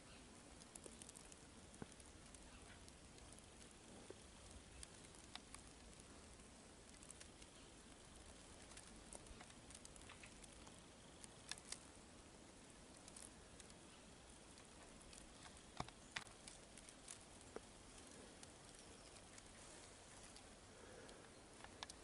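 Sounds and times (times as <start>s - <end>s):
light ticks: 0.6s - 11.8s, 12.9s - 22.0s.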